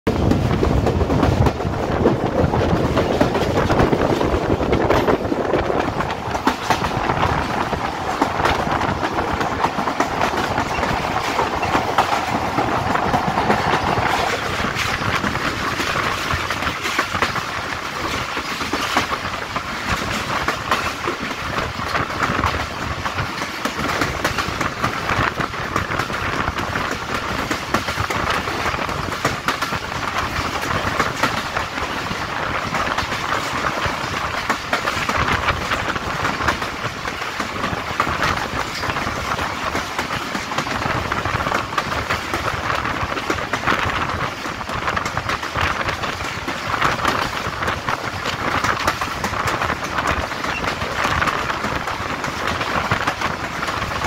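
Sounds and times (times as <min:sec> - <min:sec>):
train wheels clattering on rails: 0:00.1 - 0:54.0
wind rushing: 0:00.1 - 0:54.0.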